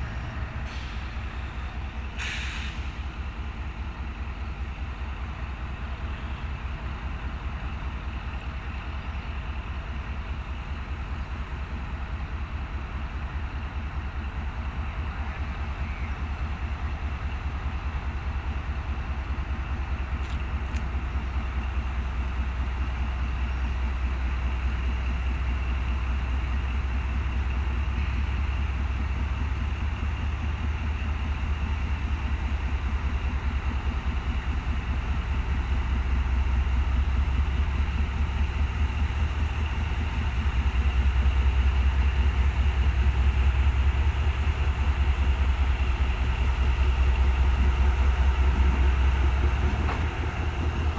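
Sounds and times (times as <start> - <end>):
locomotive engine rumbling: 0.0 - 50.9.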